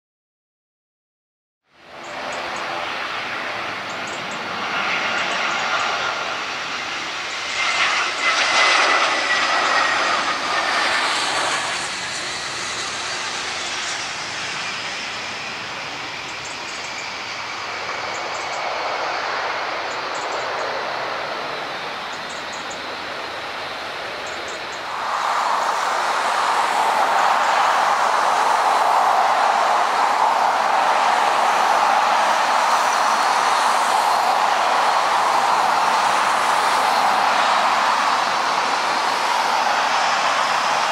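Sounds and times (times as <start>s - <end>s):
jet engines rushing whine: 1.7s - 40.9s.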